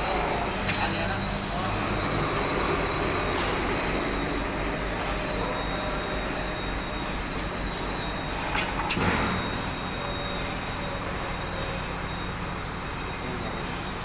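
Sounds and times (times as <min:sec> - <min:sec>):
workshop machine noise: 0:00.0 - 0:14.0.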